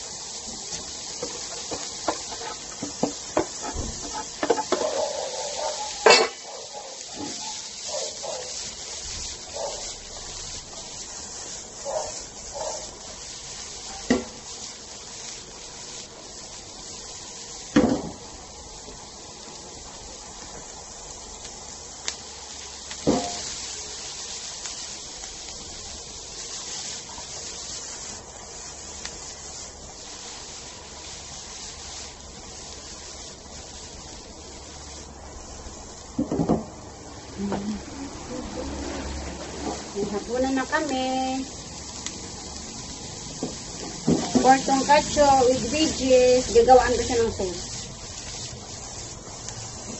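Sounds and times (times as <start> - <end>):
vegetables sizzling in frying pan: 0.0 - 49.9.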